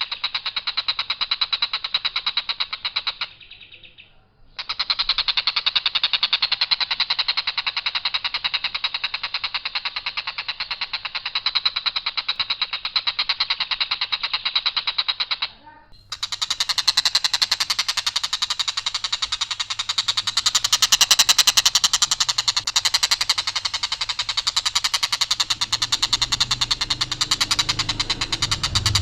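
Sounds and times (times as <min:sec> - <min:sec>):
kingfisher rattling call: 0:00.0 - 0:29.0.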